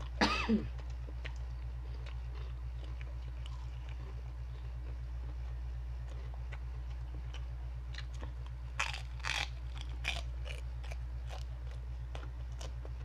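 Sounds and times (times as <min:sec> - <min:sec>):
crunchy chewing: 0:00.0 - 0:13.0
low electrical hum: 0:00.0 - 0:13.0.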